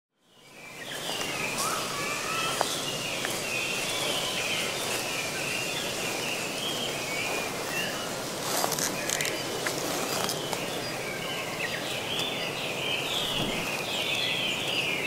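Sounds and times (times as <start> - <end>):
small birds whistling calls: 0.2 - 15.0
steady background hiss: 0.2 - 15.0.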